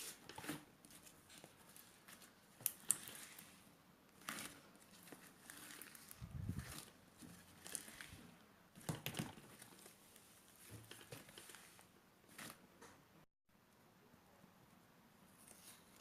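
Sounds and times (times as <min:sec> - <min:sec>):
crinkling and rustling handling: 0:00.0 - 0:13.0, 0:15.3 - 0:16.0.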